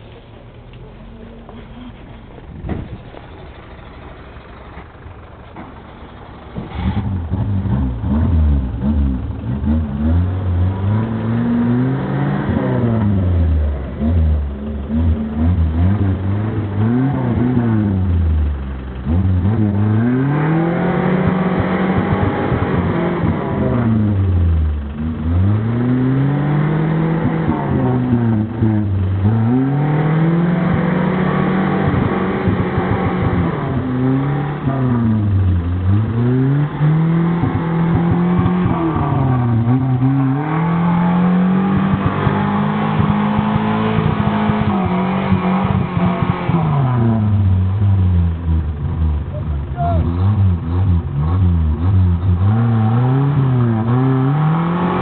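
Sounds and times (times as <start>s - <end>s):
engines revving hard: 6.6s - 55.0s.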